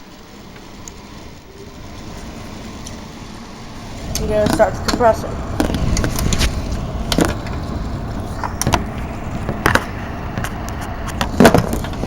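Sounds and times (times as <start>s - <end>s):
air conditioner fan rushing: 0.0s - 12.0s.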